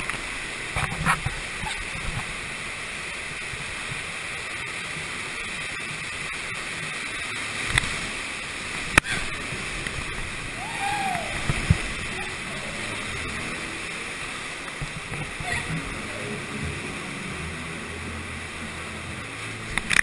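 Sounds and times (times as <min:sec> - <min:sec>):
water rushing through slide: 0:00.0 - 0:20.0.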